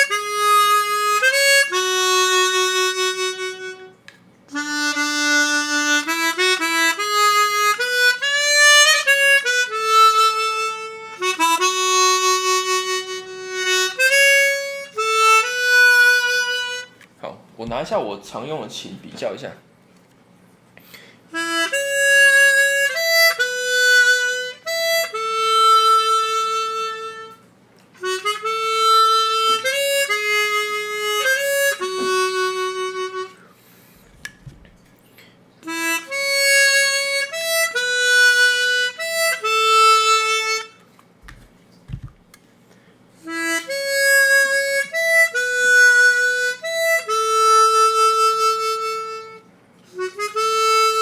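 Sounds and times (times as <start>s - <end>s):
chromatic harmonica melody: 0.0s - 17.1s, 20.7s - 41.4s, 42.6s - 51.0s.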